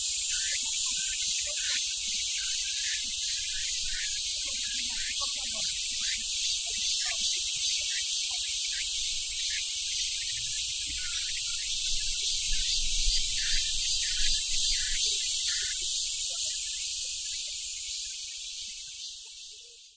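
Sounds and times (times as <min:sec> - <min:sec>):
cicada buzzing: 0:00.0 - 0:19.9.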